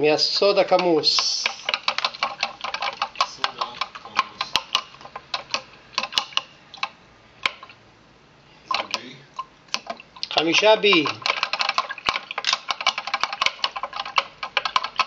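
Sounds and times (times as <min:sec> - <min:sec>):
sharp clicks and taps: 0:00.4 - 0:07.8, 0:08.7 - 0:15.0.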